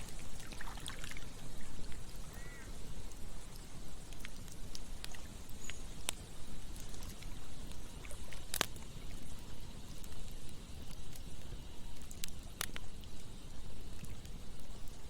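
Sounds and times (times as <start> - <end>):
campfire crackling: 0.0 - 15.0
flowing water: 0.0 - 15.0.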